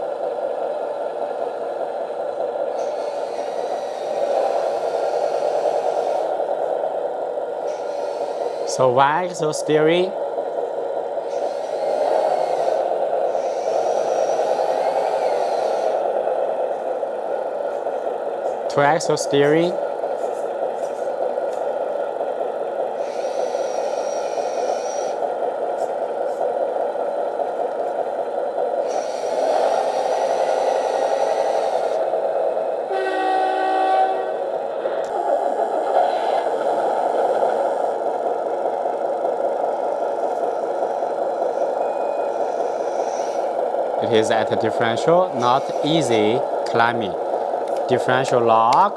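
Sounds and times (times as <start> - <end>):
engine sound through small speaker: 0.0 - 32.6, 35.0 - 48.9
motor and gears whine: 0.0 - 48.9.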